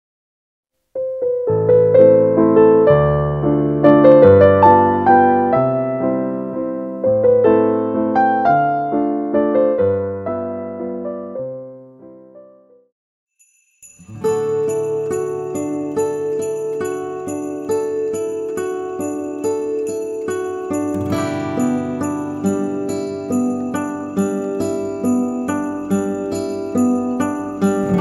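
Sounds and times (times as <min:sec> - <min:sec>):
solo piano piece: 0:00.9 - 0:12.9, 0:14.1 - 0:28.0.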